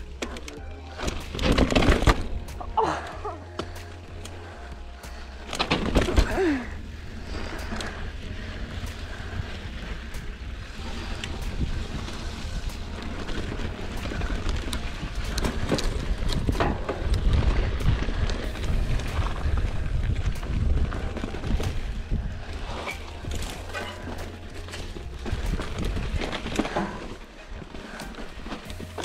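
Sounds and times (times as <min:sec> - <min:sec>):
bike rattling: 0:00.0 - 0:29.0
bike tyres crunching on rock: 0:00.0 - 0:29.0
wind rumble on microphone: 0:04.1 - 0:29.0.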